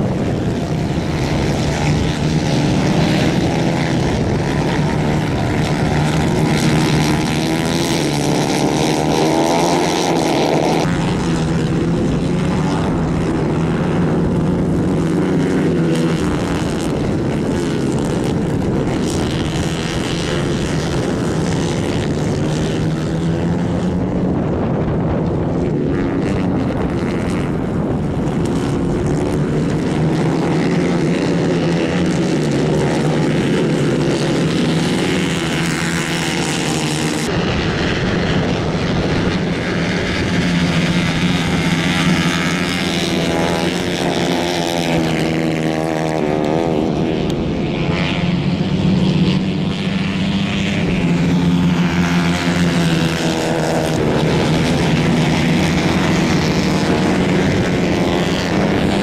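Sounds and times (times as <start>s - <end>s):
racing kart engines: 0.0s - 59.0s.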